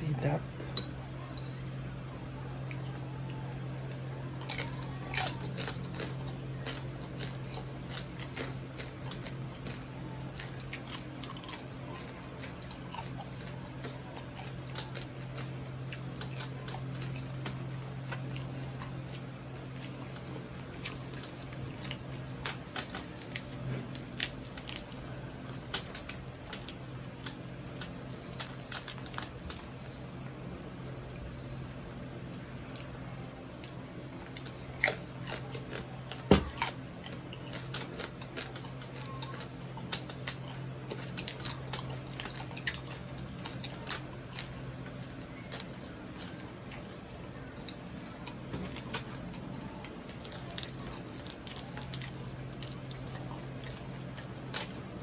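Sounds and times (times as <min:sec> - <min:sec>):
steady low hum: 0:00.0 - 0:55.0
crunching bites and chewing: 0:02.4 - 0:55.0.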